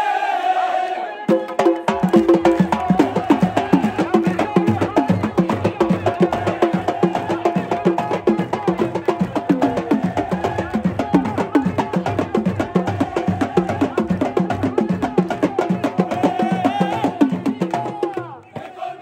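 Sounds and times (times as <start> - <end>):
crowd chanting: 0.0 - 19.0
drums beaten in fast rhythm: 1.2 - 18.8.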